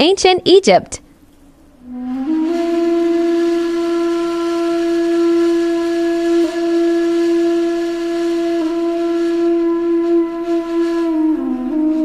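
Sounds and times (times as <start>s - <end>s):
breathy flute-like held note: 1.8s - 12.0s.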